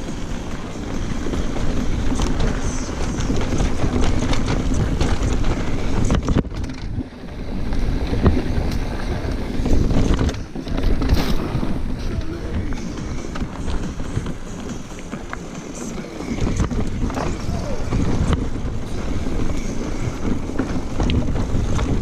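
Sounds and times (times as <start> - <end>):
bike rattling clicks: 0.0 - 22.0
tyre noise on dirt: 0.0 - 22.0
wind rushing over microphone: 0.0 - 22.0.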